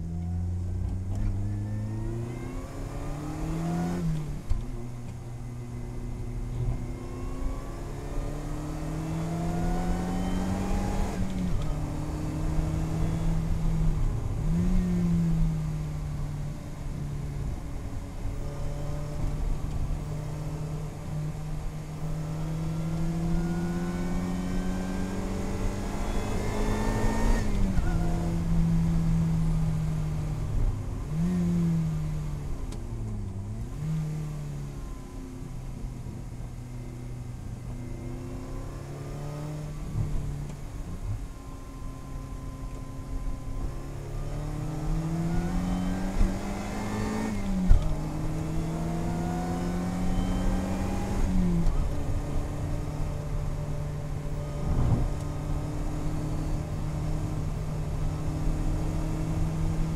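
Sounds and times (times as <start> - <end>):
car engine revving: 0.0 - 41.1, 41.8 - 59.9.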